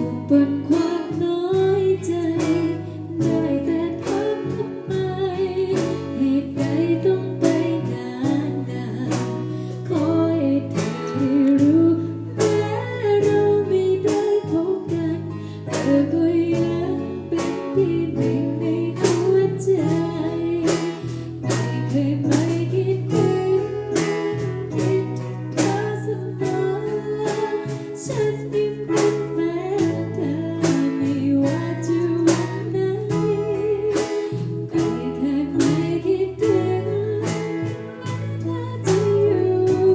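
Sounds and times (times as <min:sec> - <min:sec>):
backing track with guitar and drums: 0:00.0 - 0:39.9
woman singing: 0:00.0 - 0:39.9.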